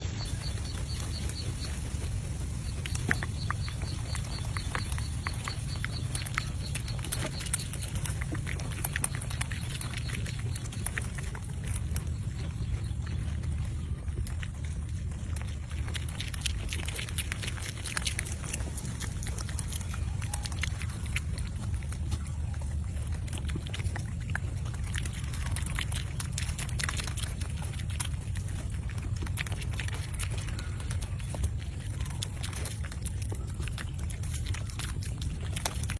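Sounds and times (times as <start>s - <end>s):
boar foraging crunches: 0.0s - 35.9s
low rumble: 0.0s - 35.9s.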